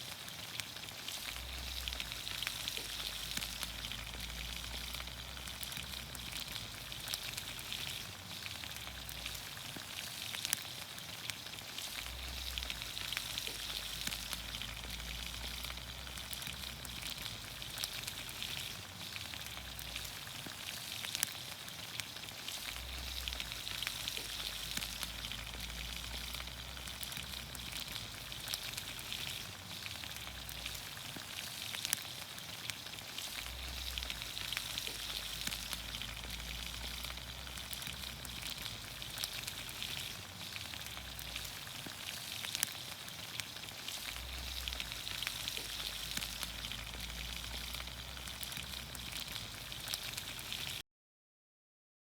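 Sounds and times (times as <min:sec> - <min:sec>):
vegetables sizzling in oil: 0:00.0 - 0:50.8.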